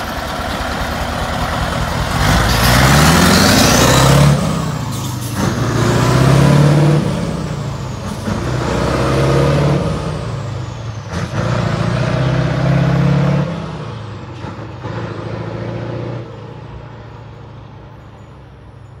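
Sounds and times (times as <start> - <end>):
diesel truck engine pulling away: 0.0 - 19.0.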